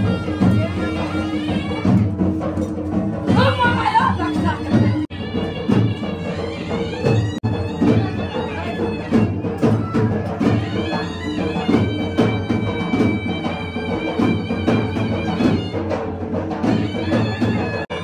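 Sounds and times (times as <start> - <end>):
drum beat: 0.0 - 18.0
reedy wind instrument melody: 0.0 - 18.0.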